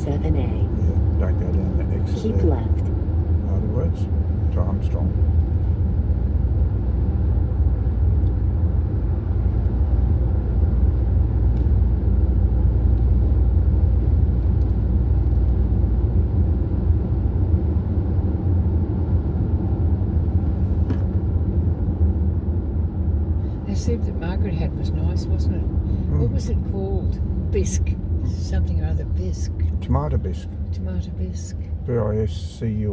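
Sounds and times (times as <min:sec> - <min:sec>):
vehicle cabin road drone: 0:00.0 - 0:32.9.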